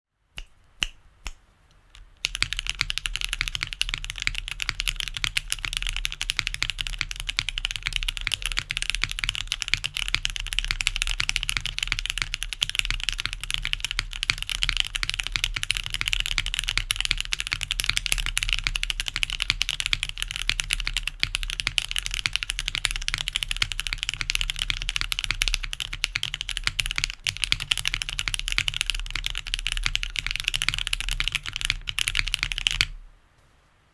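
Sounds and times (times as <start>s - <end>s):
mechanical keyboard typing: 2.0s - 33.0s.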